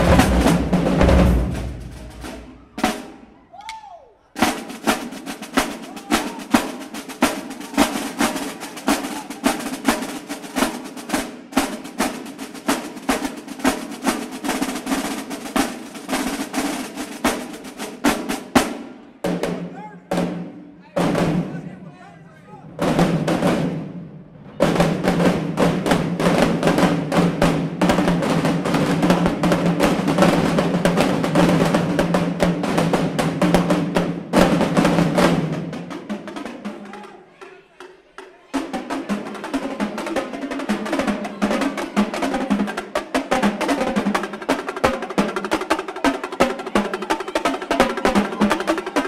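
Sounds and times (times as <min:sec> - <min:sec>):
marching drumline cadence: 0:00.0 - 0:49.0
snare and tenor drum rolls: 0:00.0 - 0:49.0.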